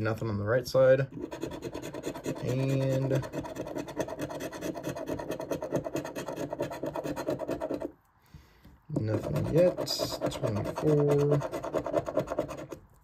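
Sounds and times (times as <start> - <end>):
coin scratching lottery ticket: 1.1 - 7.9, 9.0 - 12.8.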